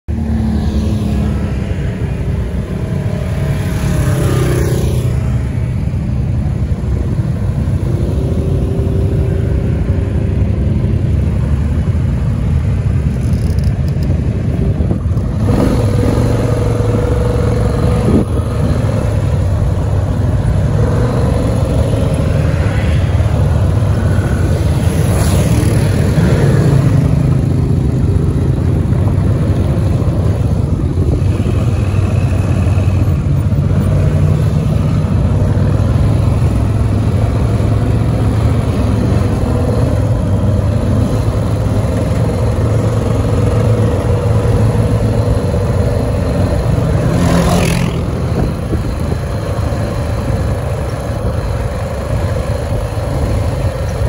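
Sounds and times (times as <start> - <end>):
atv engines revving: 0.1 - 54.0
constant low rumble: 5.0 - 47.2, 47.9 - 54.0.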